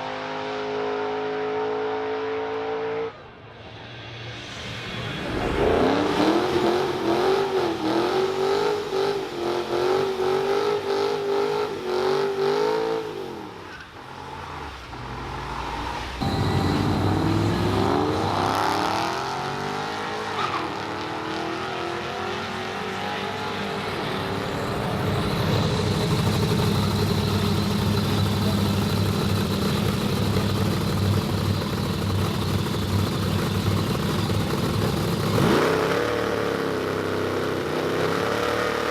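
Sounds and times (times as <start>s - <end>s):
racing car engine revving: 4.4s - 32.8s, 33.4s - 38.9s.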